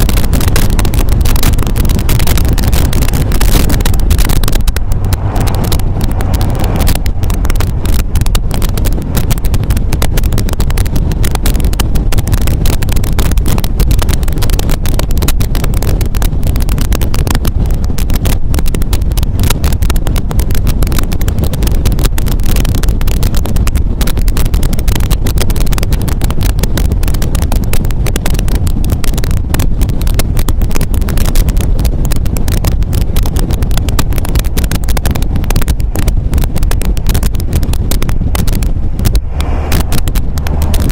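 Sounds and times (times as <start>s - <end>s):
car engine running: 0.0s - 40.9s
wind buffeting microphone: 0.0s - 40.9s.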